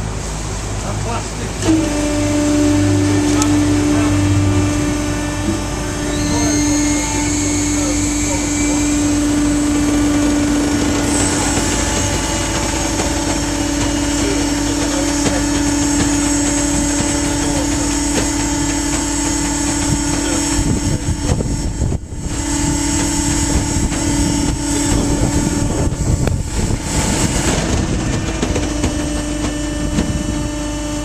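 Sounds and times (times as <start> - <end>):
baler mechanical hum: 0.0 - 31.0.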